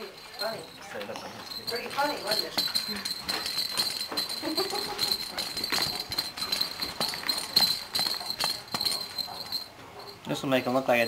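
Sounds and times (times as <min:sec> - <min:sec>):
toy rattle shaken: 0:00.0 - 0:10.2.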